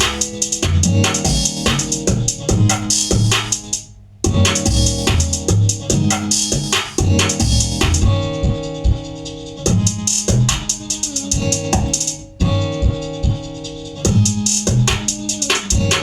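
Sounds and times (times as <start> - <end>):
bass line: 0.0 - 3.6, 4.2 - 10.7, 11.4 - 15.0, 15.7 - 16.0
keyboard and piano chords: 0.0 - 16.0
programmed drums and hi-hats: 0.0 - 16.0.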